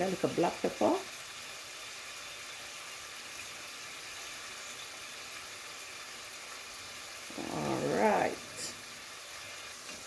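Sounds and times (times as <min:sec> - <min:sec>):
dumplings sizzling in oil: 0:00.0 - 0:10.0.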